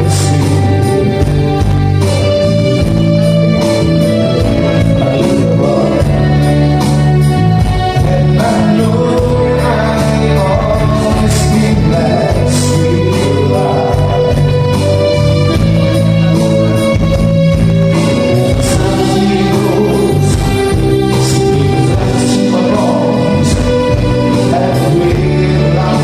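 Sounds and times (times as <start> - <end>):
live band music: 0.0 - 26.0
person singing: 0.0 - 26.0
steady bass: 0.0 - 26.0.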